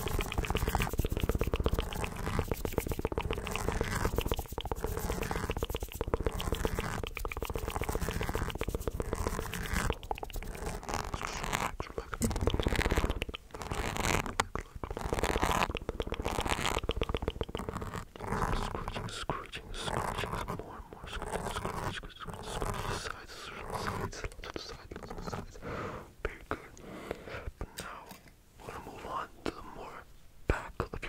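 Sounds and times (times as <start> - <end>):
wet mouth clicks: 0.0 - 25.6.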